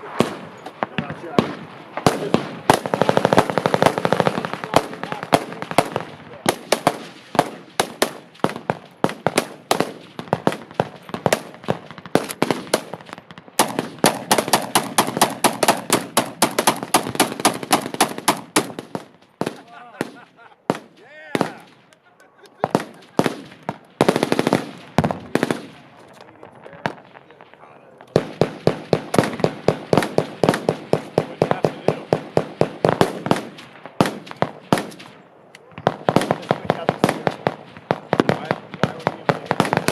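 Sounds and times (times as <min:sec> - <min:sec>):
machine guns firing: 0:00.0 - 0:21.8, 0:22.6 - 0:25.8, 0:28.0 - 0:35.2, 0:35.8 - 0:39.9
automatic gunfire: 0:00.1 - 0:21.7, 0:22.6 - 0:25.8, 0:28.1 - 0:35.2, 0:35.8 - 0:39.9.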